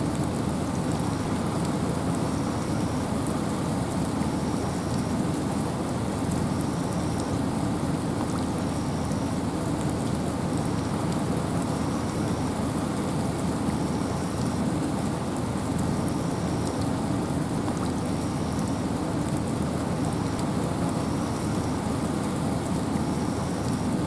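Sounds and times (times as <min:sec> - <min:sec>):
rain: 0:00.0 - 0:24.0
wind in a forest: 0:00.0 - 0:24.0.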